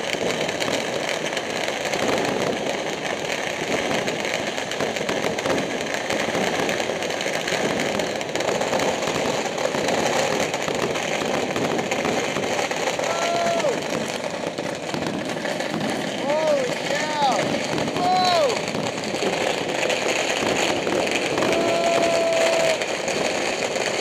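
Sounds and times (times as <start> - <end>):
firecrackers crackling and banging: 0.0 - 24.0.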